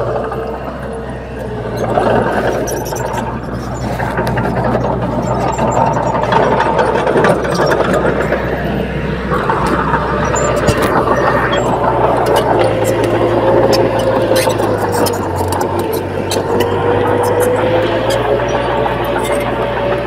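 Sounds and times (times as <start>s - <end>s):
bulldozer diesel engine running: 0.0s - 20.0s
clanks and rattles: 0.0s - 20.0s.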